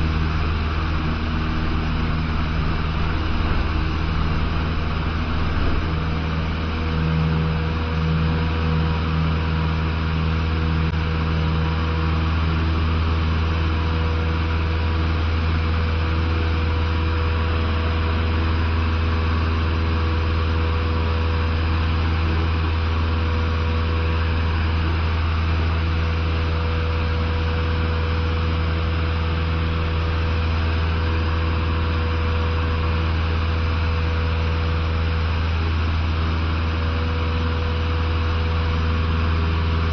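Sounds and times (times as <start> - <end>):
aircraft engine drone in cabin: 0.0 - 39.9
wheels rumbling on grass: 0.0 - 39.9.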